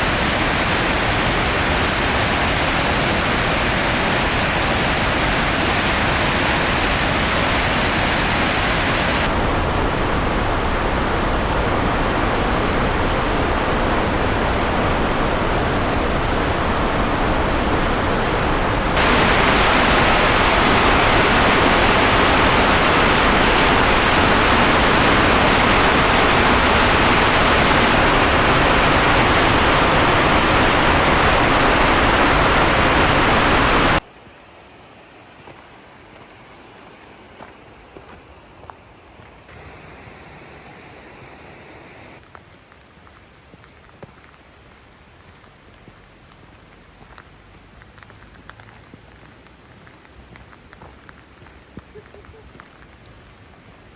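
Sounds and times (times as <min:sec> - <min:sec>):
waterfall roar: 0:00.0 - 0:34.5, 0:35.2 - 0:53.9.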